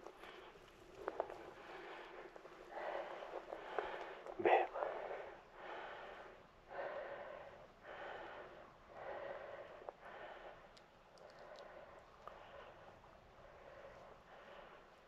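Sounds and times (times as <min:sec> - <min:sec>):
person breathing: 0:00.1 - 0:15.0.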